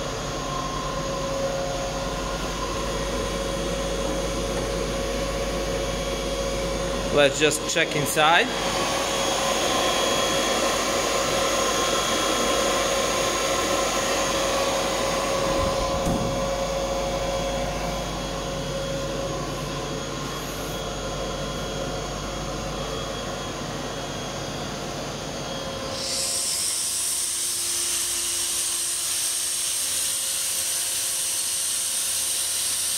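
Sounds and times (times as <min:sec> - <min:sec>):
air compressor drone: 0:00.0 - 0:32.9.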